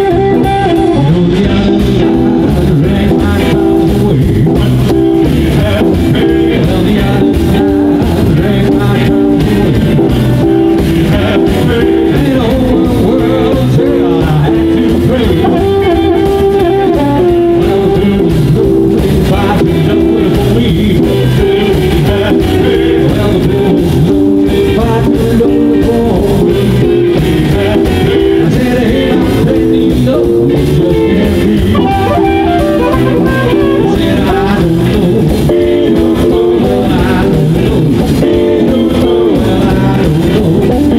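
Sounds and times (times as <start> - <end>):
person singing: 0.0 - 23.9, 27.4 - 37.6
drum kit: 0.0 - 40.9
electric guitars: 0.0 - 40.9
upright double bass: 0.0 - 40.9.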